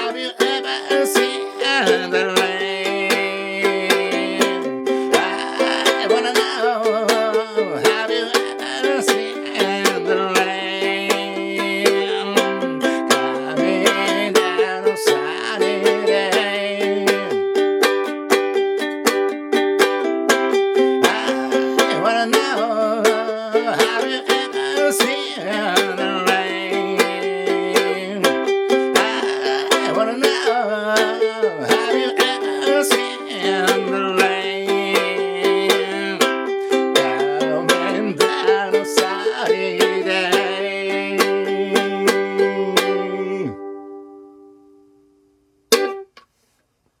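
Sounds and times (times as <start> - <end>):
ukulele strumming chords: 0.0 - 46.4.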